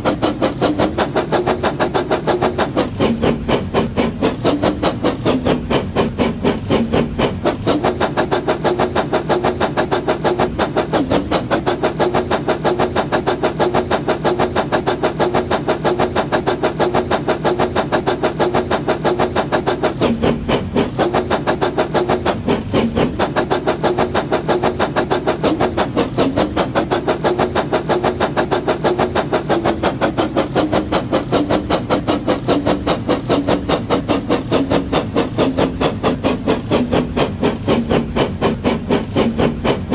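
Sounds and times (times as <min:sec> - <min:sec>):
constant hum: 0:00.0 - 0:39.9
toy train rhythmic beat: 0:00.0 - 0:39.9.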